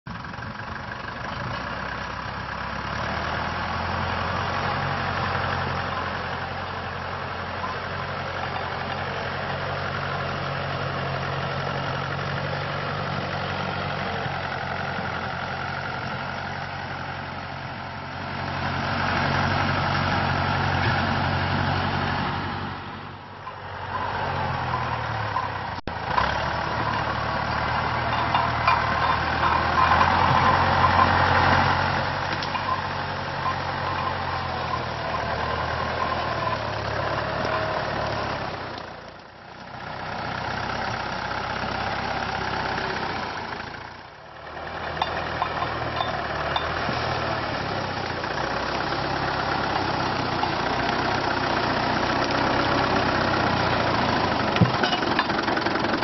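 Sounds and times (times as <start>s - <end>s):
tractor diesel engine running: 0.1s - 56.0s.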